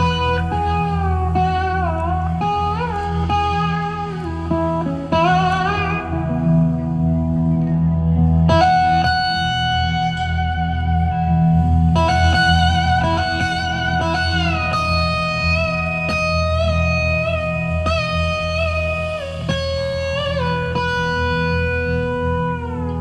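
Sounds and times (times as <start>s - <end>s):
electric slide guitar: 0.0s - 23.0s.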